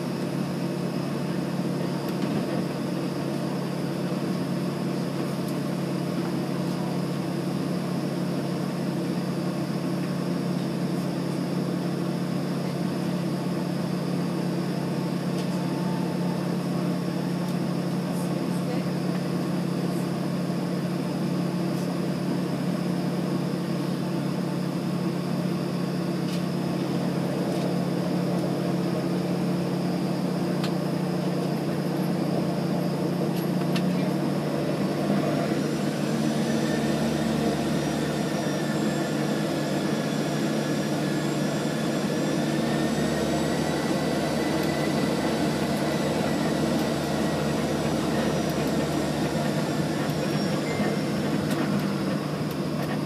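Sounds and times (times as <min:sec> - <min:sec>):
airliner engines droning: 0:00.0 - 0:53.0
high engine whine: 0:00.0 - 0:53.0.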